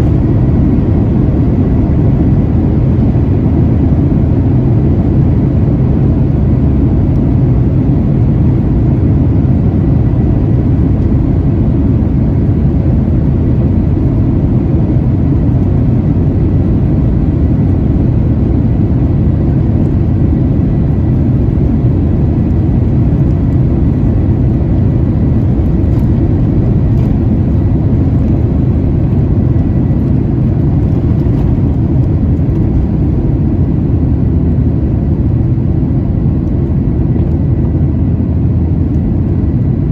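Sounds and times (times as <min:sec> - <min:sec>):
aircraft engine rumble: 0:00.0 - 0:39.9
faint steady whine: 0:00.0 - 0:39.9.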